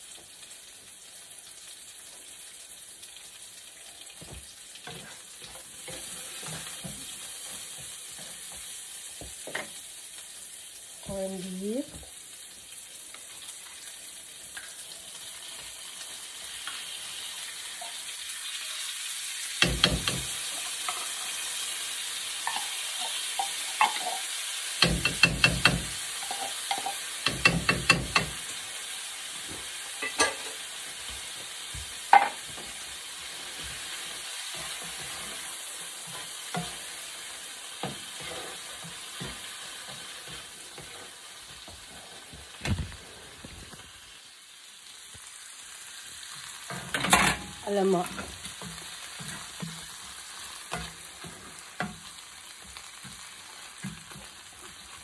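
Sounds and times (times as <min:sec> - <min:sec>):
onion and garlic sizzling in a pan: 0:00.0 - 0:55.0.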